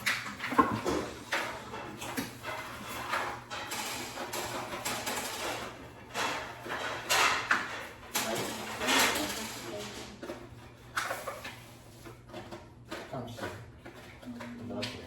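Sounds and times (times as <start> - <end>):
rustling and handling of hardware: 0.0 - 15.0.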